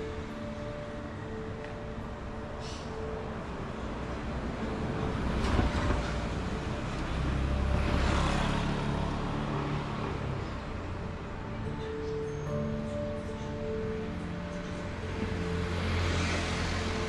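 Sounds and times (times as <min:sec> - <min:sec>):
street traffic: 0:00.0 - 0:17.0
vehicle engine rumble passing: 0:02.6 - 0:17.0.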